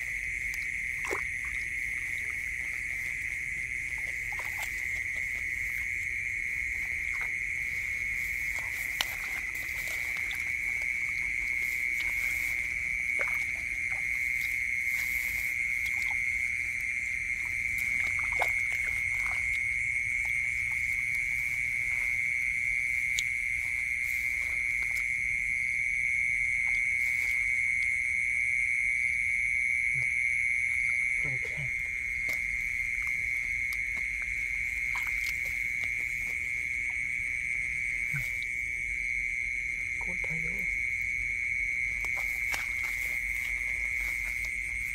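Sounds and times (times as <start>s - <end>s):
wet squelches and splashes in mud: 0.0s - 28.2s, 29.8s - 44.9s.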